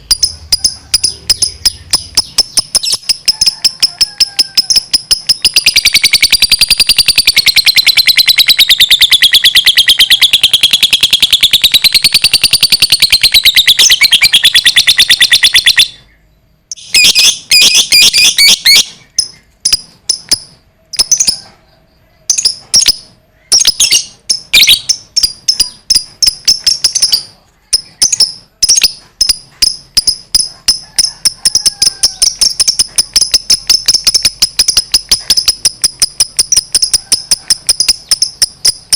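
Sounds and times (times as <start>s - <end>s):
bird chattering trill: 0.0s - 38.9s.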